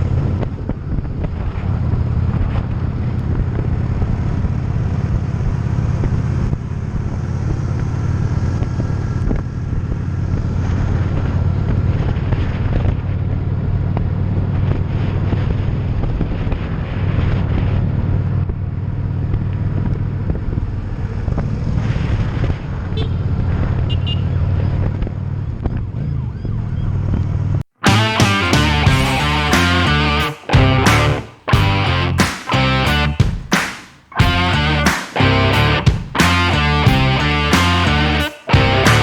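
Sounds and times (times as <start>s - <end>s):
motorcycle engine cruising: 0.0s - 33.5s, 34.1s - 39.0s.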